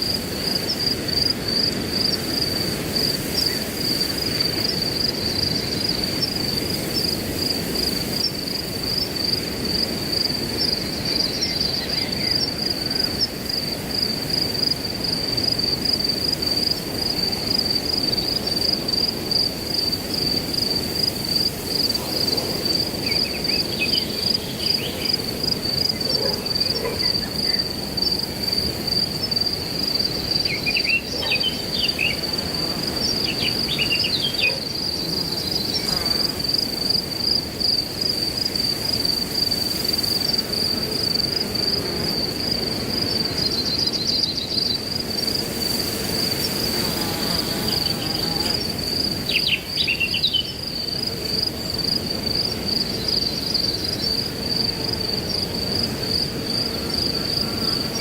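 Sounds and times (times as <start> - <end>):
cricket chirping: 0.0 - 58.0
wind through grass: 0.0 - 58.0.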